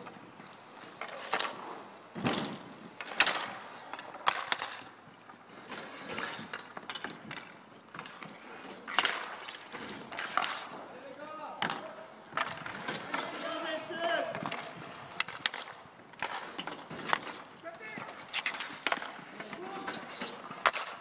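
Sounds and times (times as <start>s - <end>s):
hockey sticks and puck clacking: 0.0s - 21.0s
skate wheels rolling on asphalt: 0.0s - 21.0s.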